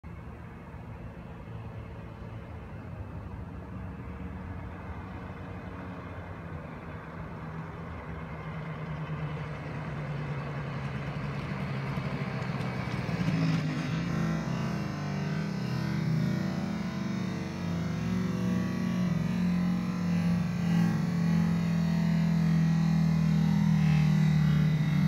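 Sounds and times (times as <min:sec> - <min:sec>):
scooter engine approaching: 0:02.5 - 0:25.0.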